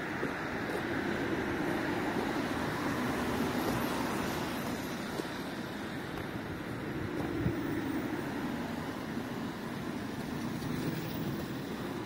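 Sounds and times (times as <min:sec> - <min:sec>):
cars driving on wet street: 0:00.0 - 0:12.0.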